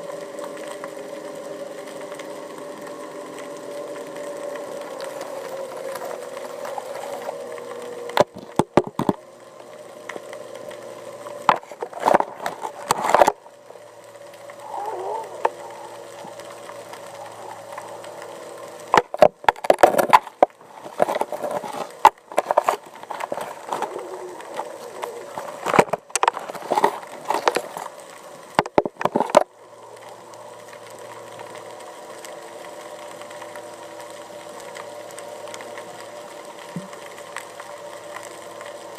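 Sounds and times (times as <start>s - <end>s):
mechanical hum underwater: 0.0s - 38.9s.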